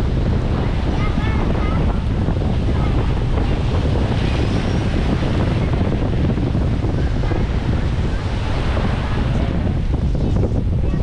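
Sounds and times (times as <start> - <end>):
small waves breaking on sand: 0.0 - 10.0
wind buffeting microphone: 0.0 - 11.0.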